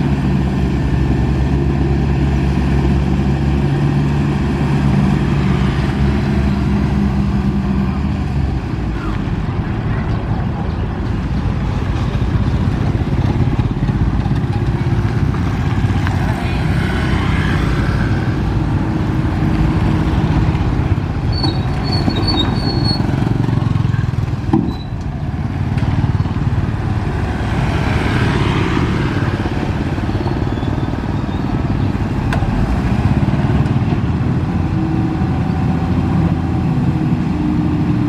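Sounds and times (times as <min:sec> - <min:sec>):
heavy diesel engine rumbling: 0:00.0 - 0:38.0.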